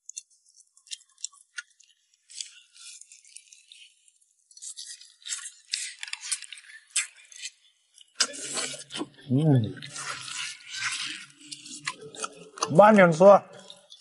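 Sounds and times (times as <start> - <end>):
wet crackly chewing: 0.0 - 12.7
meat tearing off bone: 0.1 - 3.6, 4.5 - 9.2, 9.8 - 12.7.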